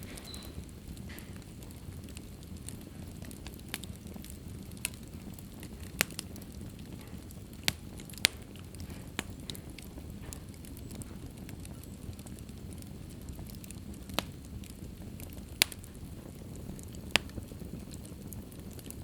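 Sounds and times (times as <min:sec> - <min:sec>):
fire crackling and popping: 0:00.0 - 0:19.0
fire rumbling in fireplace: 0:00.0 - 0:19.0.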